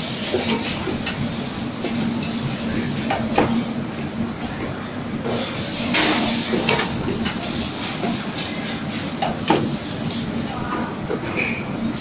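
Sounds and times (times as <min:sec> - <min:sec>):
machine hum and rattle: 0:00.0 - 0:12.0.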